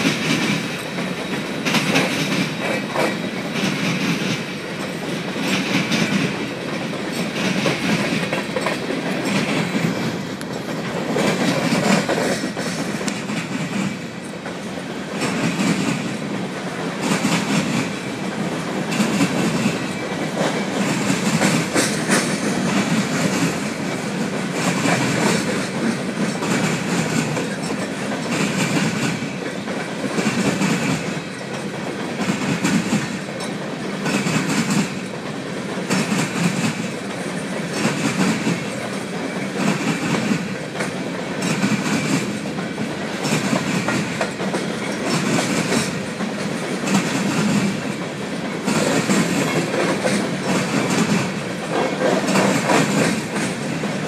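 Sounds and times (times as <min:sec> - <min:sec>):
steady train rumble: 0:00.0 - 0:54.0
wheels clacking over rail joints: 0:00.0 - 0:54.0.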